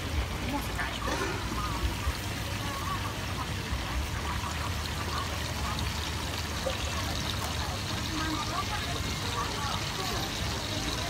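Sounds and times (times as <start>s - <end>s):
deep-frying bubbling sizzle: 0.0s - 11.0s.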